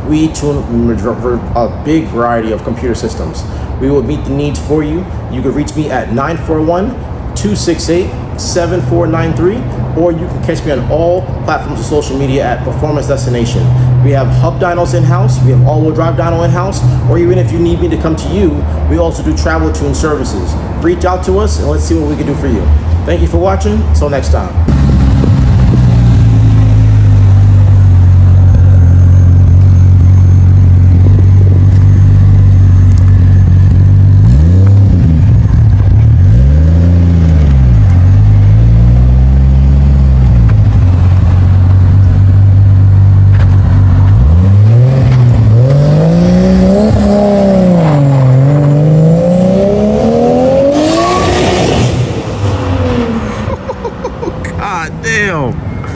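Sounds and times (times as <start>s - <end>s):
car engine idling and revving: 2.4s - 55.9s.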